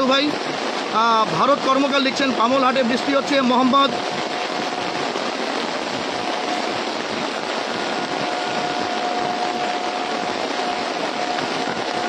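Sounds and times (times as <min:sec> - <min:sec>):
torrential rain: 0:00.0 - 0:12.0.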